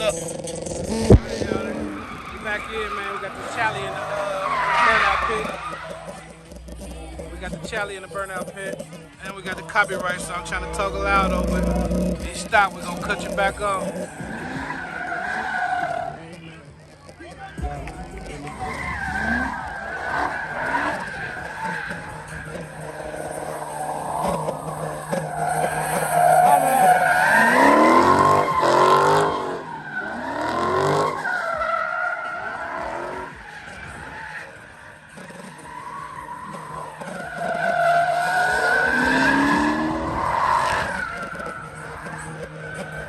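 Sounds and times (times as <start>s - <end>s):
car engine revving: 0.0s - 43.0s
tires squealing: 0.0s - 43.0s.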